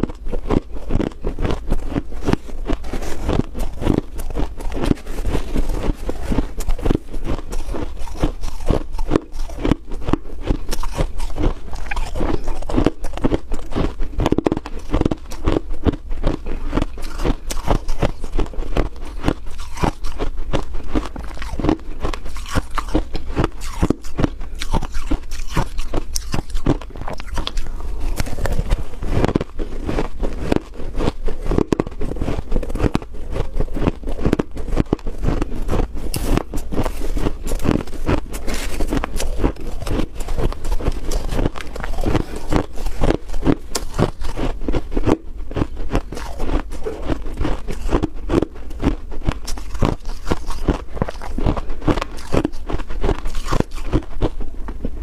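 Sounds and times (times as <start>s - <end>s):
chewing: 0.0s - 55.0s
crunching frost: 0.1s - 54.8s.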